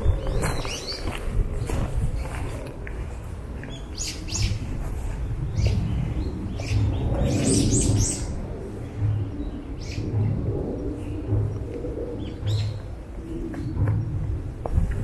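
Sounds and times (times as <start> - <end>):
birds chirping: 0.0 - 15.0
low rumble: 0.0 - 15.0.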